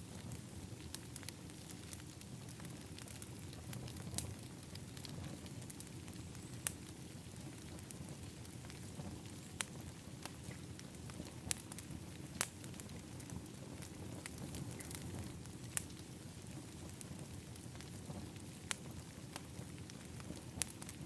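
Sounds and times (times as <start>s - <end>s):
wood fire crackling: 0.0s - 21.0s
sharp pops of fire: 0.1s - 21.0s.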